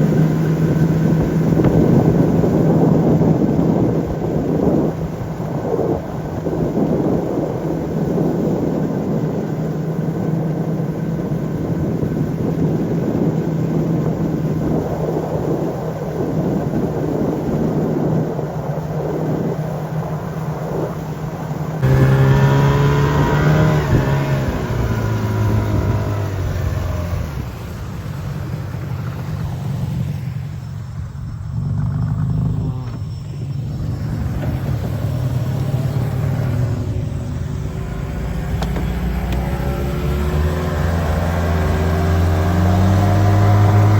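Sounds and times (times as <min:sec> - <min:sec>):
motor engine running: 0:00.0 - 0:43.9
wind noise: 0:00.0 - 0:43.9.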